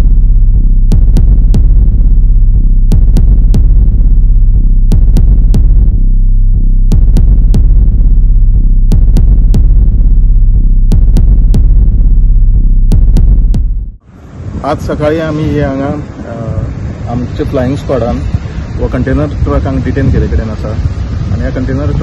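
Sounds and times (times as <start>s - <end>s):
electronic music with droning bass: 0.0s - 22.0s.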